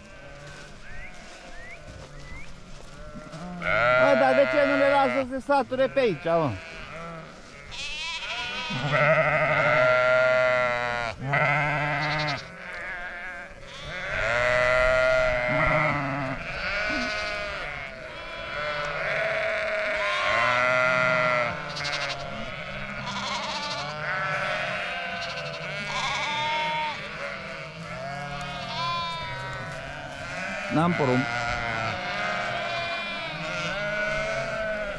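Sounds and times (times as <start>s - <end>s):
sheep bleating: 0.0s - 2.1s, 2.8s - 34.9s.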